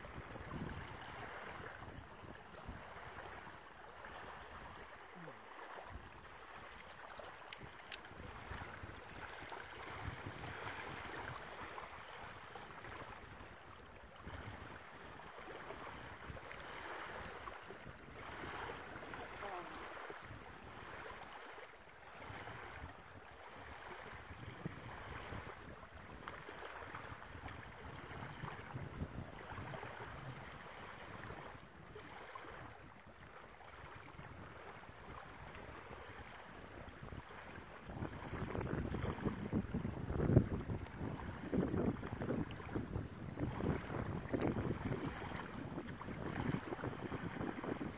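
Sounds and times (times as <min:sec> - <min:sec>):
wind on microphone: 0:00.0 - 0:06.8, 0:07.6 - 0:21.2, 0:22.2 - 0:47.9
small waves lapping on shore: 0:00.0 - 0:47.9.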